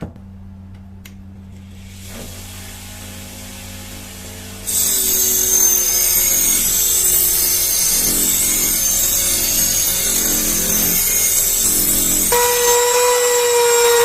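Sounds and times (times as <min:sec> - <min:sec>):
power tool whining: 0:01.7 - 0:14.0.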